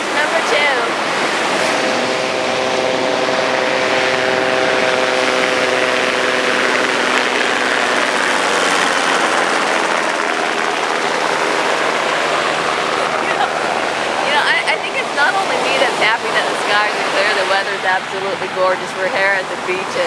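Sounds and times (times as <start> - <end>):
helicopter flying past: 0.0 - 20.0
surf washing: 0.0 - 20.0.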